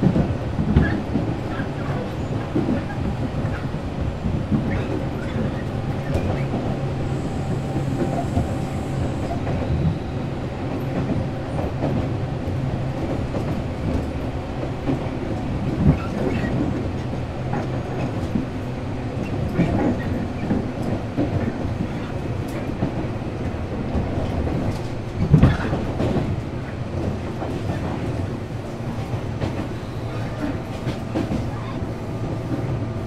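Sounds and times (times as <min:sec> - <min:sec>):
clacks over rail joints: 0:00.0 - 0:06.9, 0:10.7 - 0:33.0
train wheels rumbling on rails: 0:00.0 - 0:33.0.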